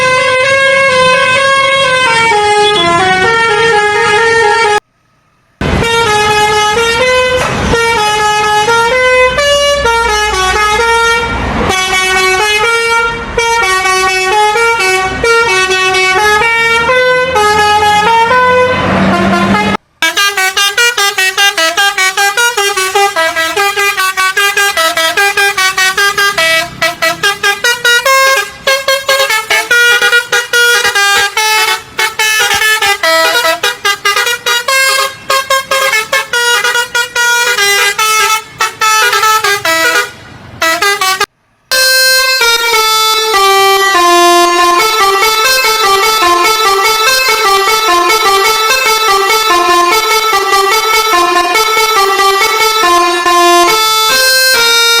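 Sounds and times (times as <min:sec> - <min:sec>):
bus musical horn tune: 0:00.0 - 0:55.0.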